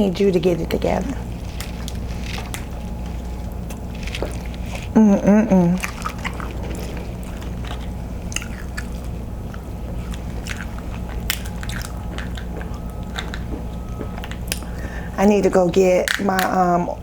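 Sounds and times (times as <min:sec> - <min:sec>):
steady low hum: 0:00.0 - 0:17.0
chewing and wet mouth sounds: 0:01.2 - 0:15.0.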